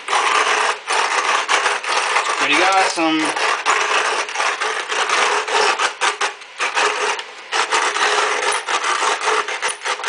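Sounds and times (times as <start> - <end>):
coffee grinder crunching beans: 0.0 - 10.0.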